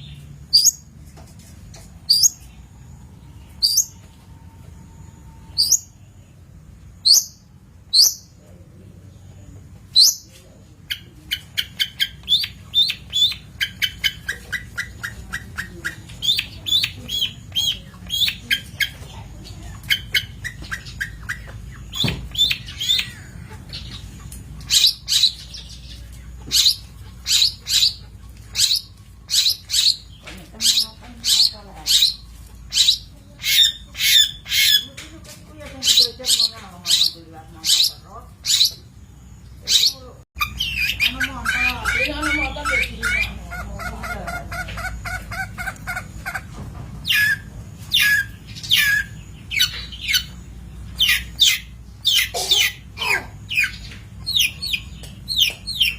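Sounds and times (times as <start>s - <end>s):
bird singing high chirps: 0.0s - 0.9s, 2.1s - 6.4s, 7.0s - 8.4s, 9.9s - 10.3s, 10.9s - 35.0s, 35.8s - 43.5s, 47.0s - 55.9s
harsh bird calls: 0.0s - 55.9s.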